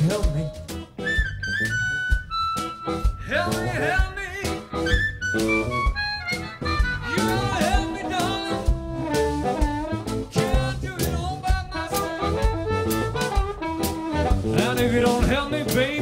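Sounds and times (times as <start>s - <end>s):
blues harmonica: 0.0s - 16.0s
drum kit beat: 0.0s - 16.0s
electric bass: 0.0s - 16.0s
electric guitar: 0.0s - 16.0s.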